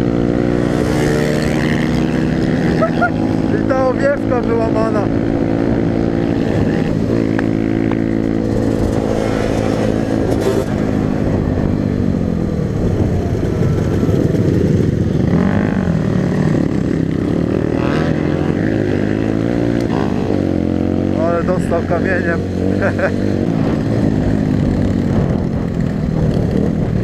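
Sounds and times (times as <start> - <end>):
dirt bike engine revving: 0.0 - 11.8, 13.8 - 27.0
wind and road noise: 0.0 - 27.0.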